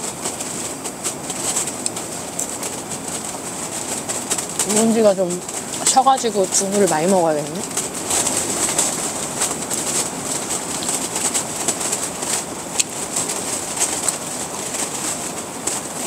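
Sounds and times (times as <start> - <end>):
tent fabric shaking and snapping: 0.0 - 16.0.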